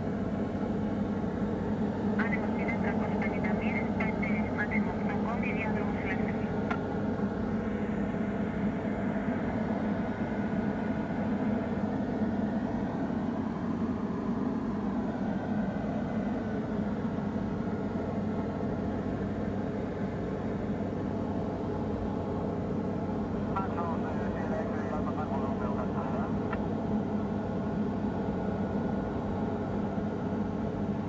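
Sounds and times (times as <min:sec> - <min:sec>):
aircraft engine and propeller: 0:00.0 - 0:31.0.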